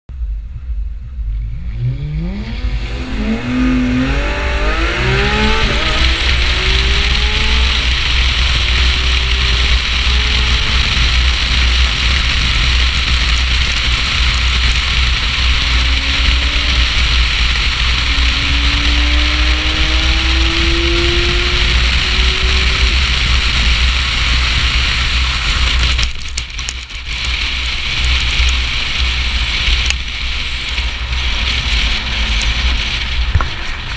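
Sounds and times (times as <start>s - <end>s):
wind rush and road noise: 0.1s - 33.9s
car engine accelerating hard: 0.2s - 33.9s.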